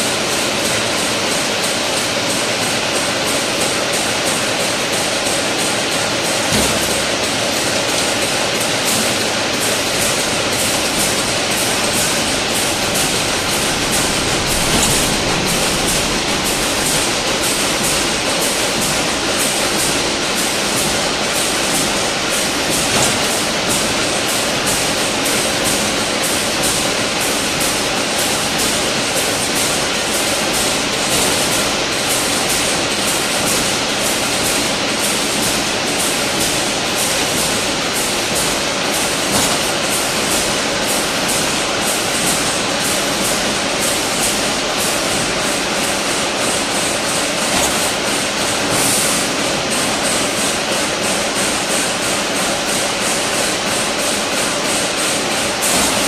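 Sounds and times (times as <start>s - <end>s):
wire weaving machine clattering: 0.0s - 56.0s.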